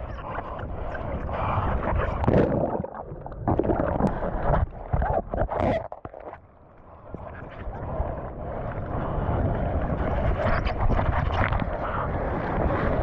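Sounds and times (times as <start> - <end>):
wind buffeting microphone: 0.0 - 6.3, 7.1 - 13.0.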